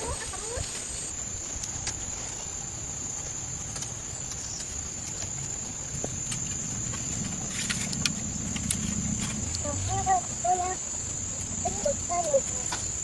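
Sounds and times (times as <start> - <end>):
insects chirring: 0.0 - 13.0
low background rumble: 0.0 - 13.0.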